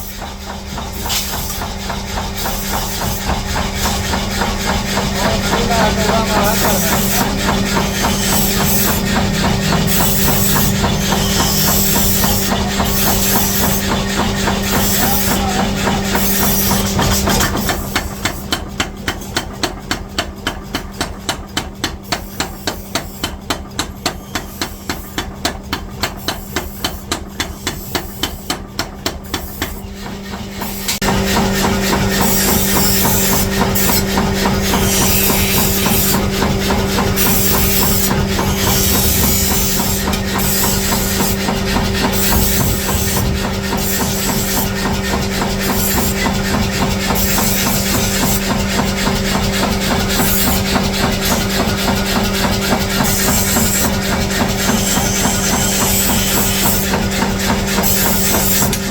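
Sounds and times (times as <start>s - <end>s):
workshop machine hum: 0.0s - 58.9s.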